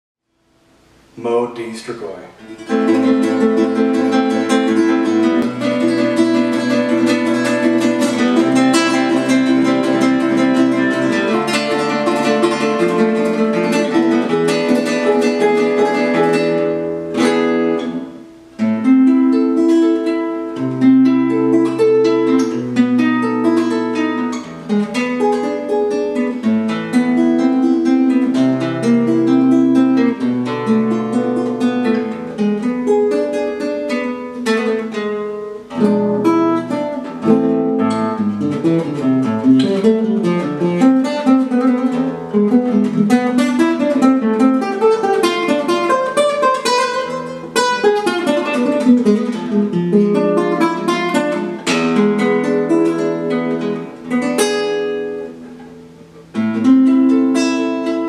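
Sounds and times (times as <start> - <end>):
fingerpicked classical guitar: 0.3 - 58.0.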